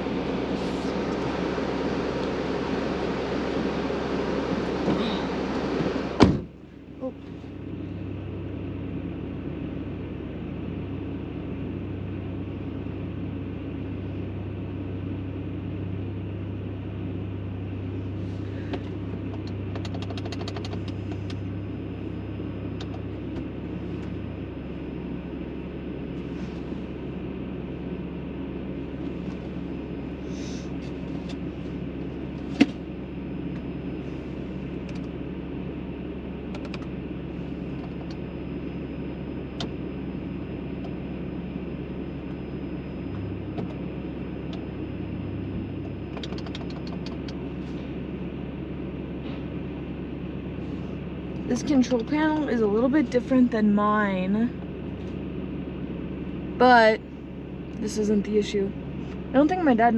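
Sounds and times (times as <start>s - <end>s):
low hum: 0.0s - 59.9s
vehicle engines idling: 0.0s - 59.9s.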